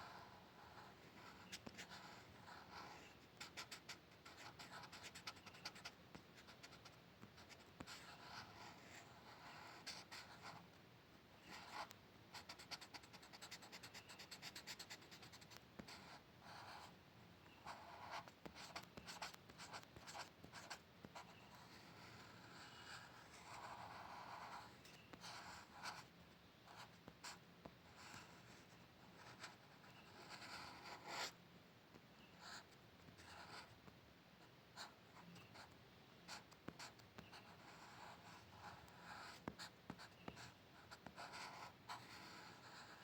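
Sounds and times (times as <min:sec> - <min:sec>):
pencil scratching on paper: 0:00.0 - 0:10.6, 0:11.4 - 0:26.1, 0:26.7 - 0:31.4, 0:32.3 - 0:33.8, 0:34.8 - 0:43.0.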